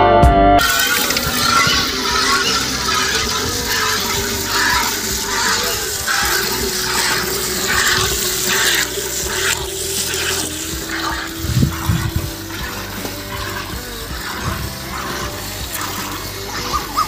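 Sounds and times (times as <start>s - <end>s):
milk squirting into metal pail: 0.6s - 17.0s.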